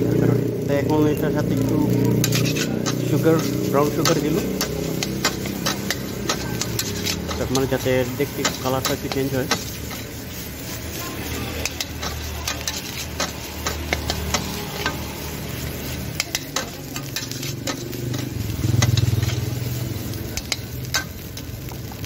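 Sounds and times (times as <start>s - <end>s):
food sizzling: 0.0s - 22.0s
metal spatula scraping a wok: 1.2s - 21.8s.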